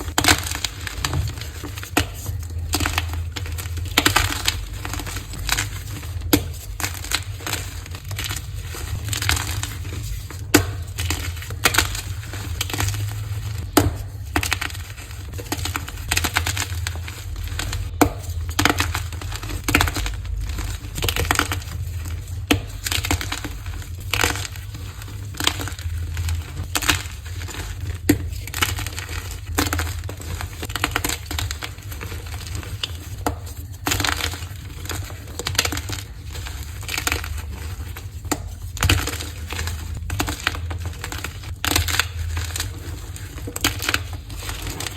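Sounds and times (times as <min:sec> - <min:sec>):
chalk blocks crunching: 0:00.0 - 0:44.9.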